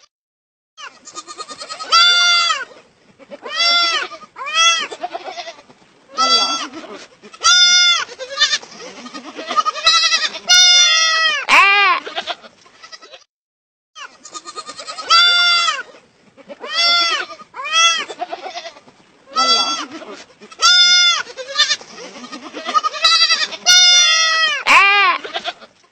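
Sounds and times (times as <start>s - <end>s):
lamb bleating: 0.8s - 13.3s, 14.0s - 25.7s.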